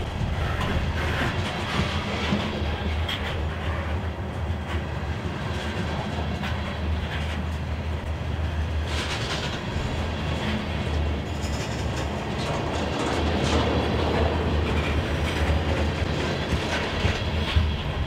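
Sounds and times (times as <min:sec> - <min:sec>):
train wheels rumbling on rail: 0:00.0 - 0:18.0
wheels clicking over rail joints: 0:00.1 - 0:18.0.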